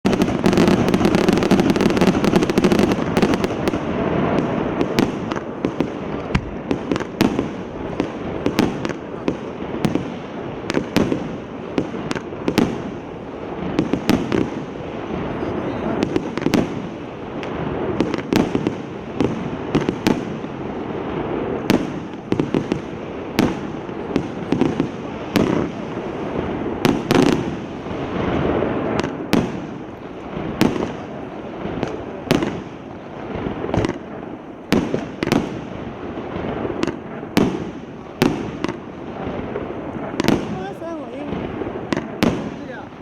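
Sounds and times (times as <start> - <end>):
continuous firework hiss: 0.0 - 43.0
firework bangs: 0.0 - 43.0.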